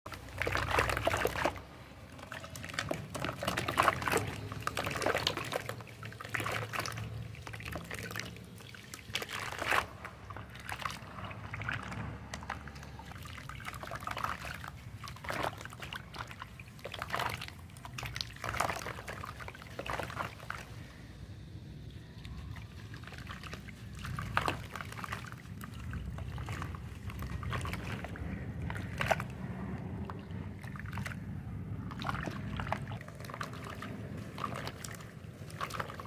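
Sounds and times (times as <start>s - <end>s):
water splashing and trickling: 0.1s - 36.0s.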